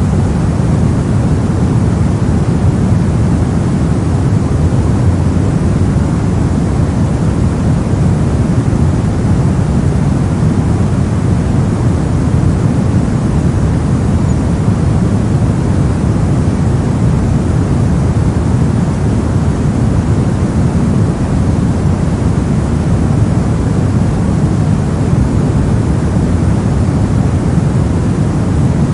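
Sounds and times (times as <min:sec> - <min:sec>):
brown noise rumble: 0:00.0 - 0:28.9.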